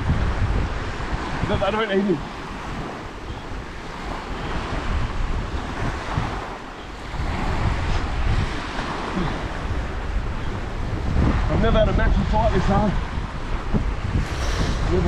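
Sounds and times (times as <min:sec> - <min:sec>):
small waves breaking on sand: 0:00.0 - 0:15.0
wind rumbling on microphone: 0:00.0 - 0:15.0.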